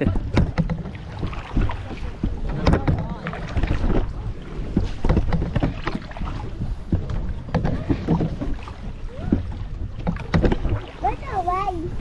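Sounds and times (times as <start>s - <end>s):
knocks against boat hull: 0.0s - 4.0s, 4.7s - 10.7s
paddles splashing: 0.0s - 12.0s
wind rumble on microphone: 0.0s - 12.0s.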